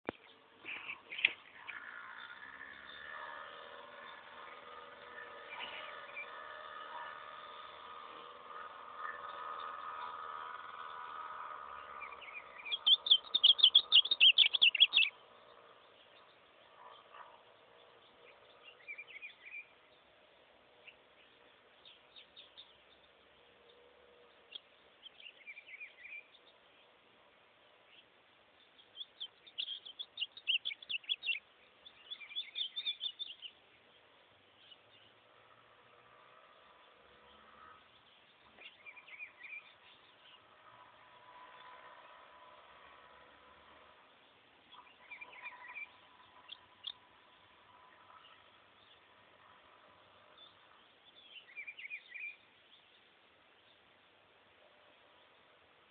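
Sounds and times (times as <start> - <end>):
bird singing chirpy phrases: 0.0 - 55.9.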